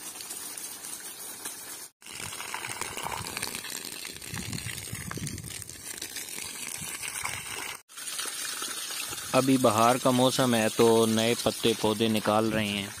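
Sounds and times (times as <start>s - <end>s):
hose water splashing on leaves: 0.0s - 13.0s.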